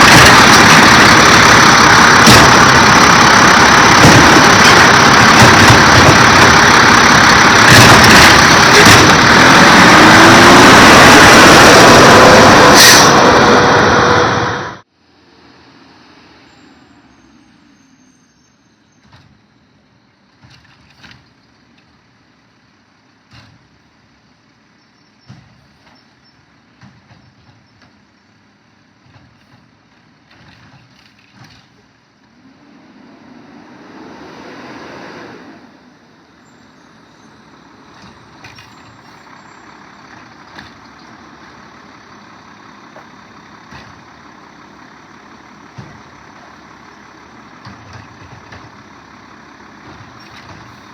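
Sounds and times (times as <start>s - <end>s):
garbage truck engine running: 0.0s - 15.6s, 18.9s - 50.9s.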